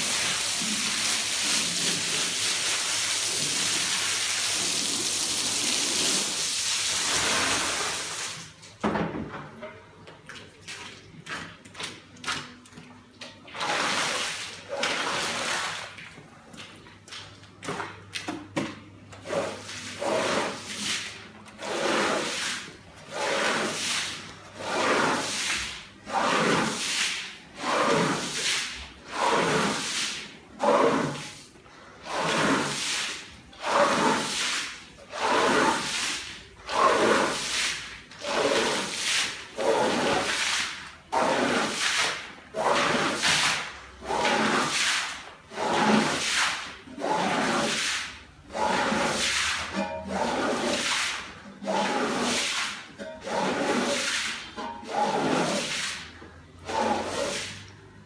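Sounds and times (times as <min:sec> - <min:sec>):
squeegee swishing wet rug: 0:00.0 - 0:08.8, 0:10.3 - 0:18.3, 0:19.1 - 0:57.9.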